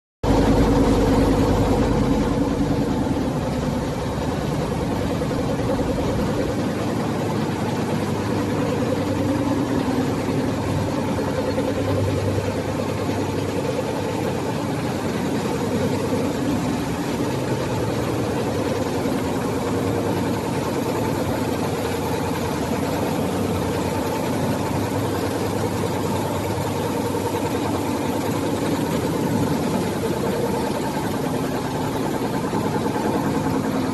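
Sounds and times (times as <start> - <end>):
machine humming and clattering: 0.2 - 33.9.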